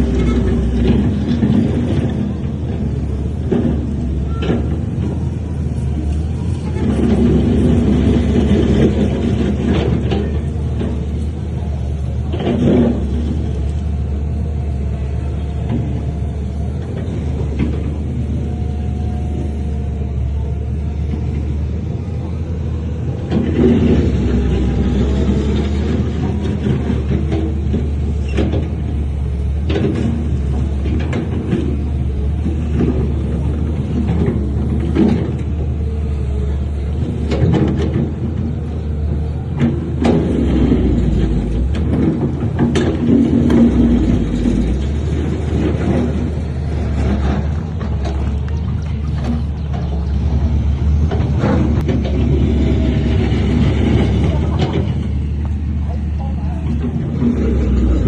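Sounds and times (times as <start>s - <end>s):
diesel machinery rumbling: 0.0s - 58.0s
knocks and clanks: 0.0s - 58.0s.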